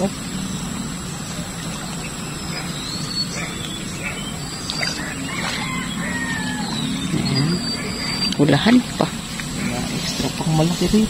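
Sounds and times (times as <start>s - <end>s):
birds chirping: 0.0s - 11.0s
steady low hum: 0.0s - 11.0s
fish splashing in water: 1.0s - 10.2s.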